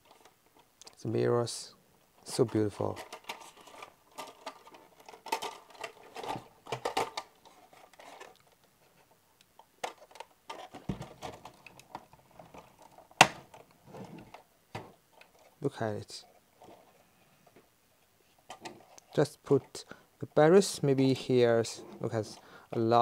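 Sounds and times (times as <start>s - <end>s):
hands handling plastic toy: 0.0s - 1.0s, 2.2s - 23.0s.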